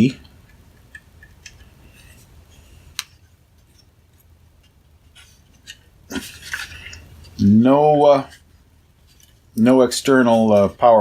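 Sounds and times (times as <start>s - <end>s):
light rubbing: 0.0s - 11.0s.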